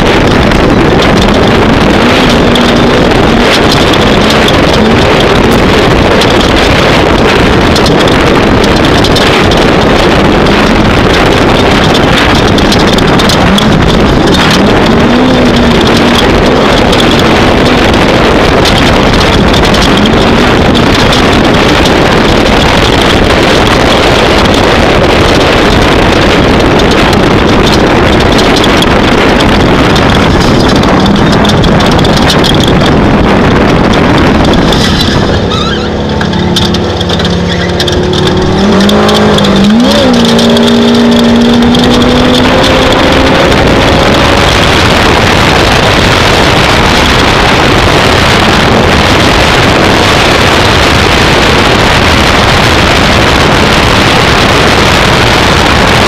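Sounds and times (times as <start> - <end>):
engine running hard: 0.0 - 56.0
wind noise on microphone: 0.0 - 56.0.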